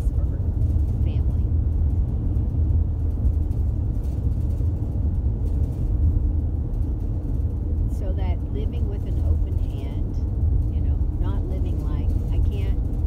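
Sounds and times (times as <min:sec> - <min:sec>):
road and engine rumble in vehicle: 0:00.0 - 0:13.0.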